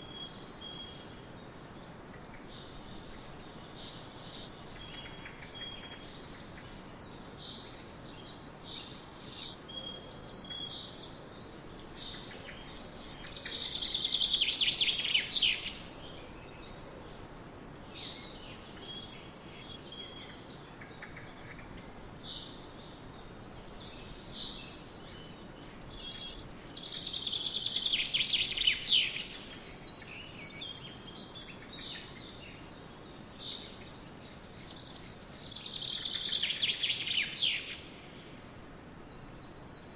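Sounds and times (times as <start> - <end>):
rapid trilling birdsong: 0.0 - 38.4
faint steady hiss: 0.0 - 39.9
songbirds chirping and whistling: 0.0 - 39.9.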